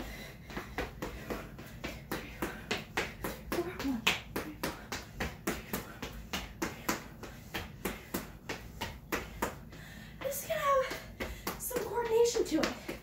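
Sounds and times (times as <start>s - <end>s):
quick footsteps on hard floor: 0.0s - 13.0s.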